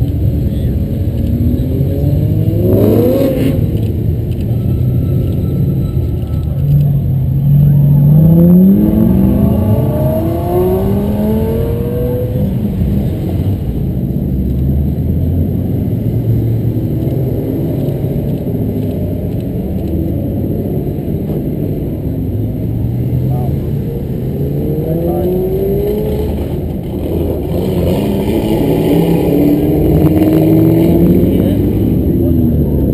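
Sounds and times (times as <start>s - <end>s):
car engine accelerating: 0.0s - 32.9s
low rumble of car engines: 0.0s - 32.9s.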